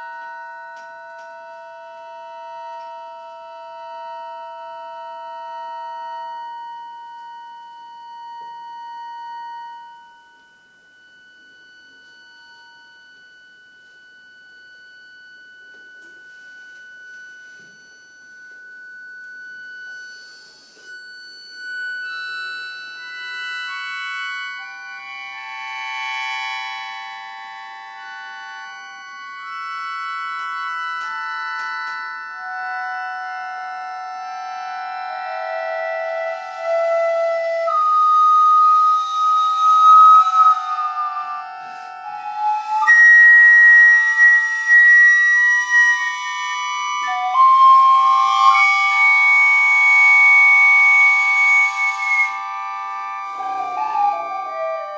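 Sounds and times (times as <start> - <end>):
recorder: 0.0 - 54.9.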